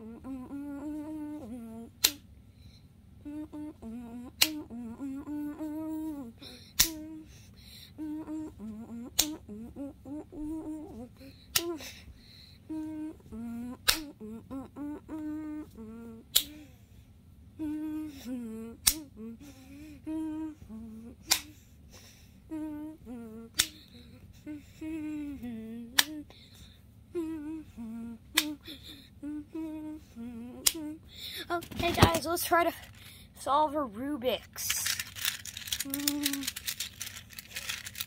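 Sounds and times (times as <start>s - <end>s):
child humming: 0.0s - 2.2s, 3.2s - 16.8s, 17.6s - 21.7s, 22.5s - 26.3s, 27.1s - 33.6s, 35.6s - 38.0s.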